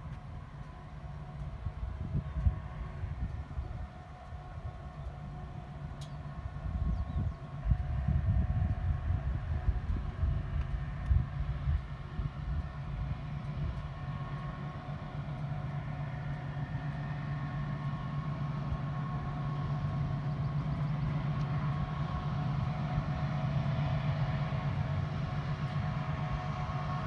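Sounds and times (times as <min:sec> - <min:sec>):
diesel locomotive drone: 0:00.0 - 0:27.0.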